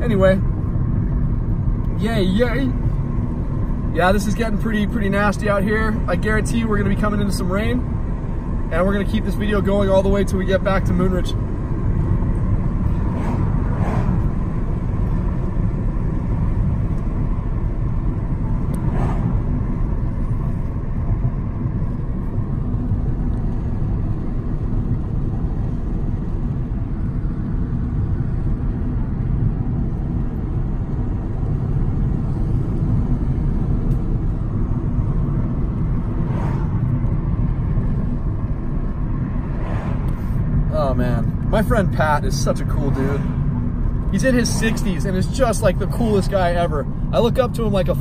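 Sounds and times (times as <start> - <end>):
car driving on paved road: 0.0 - 48.0.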